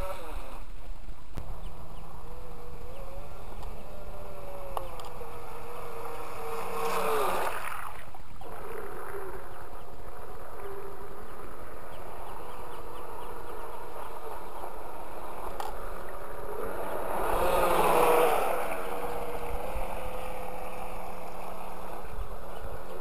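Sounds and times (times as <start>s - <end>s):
model boat motor whine: 0.0s - 23.0s.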